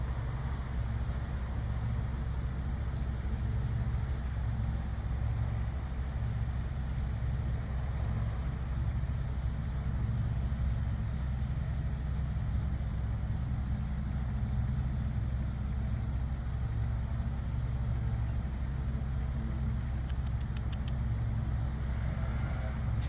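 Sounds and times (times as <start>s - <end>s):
van engine idling: 0.0s - 23.0s.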